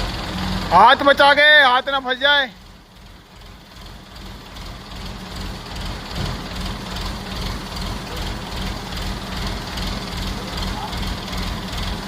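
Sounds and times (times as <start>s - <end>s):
heavy machinery humming and rumbling: 0.0s - 12.0s.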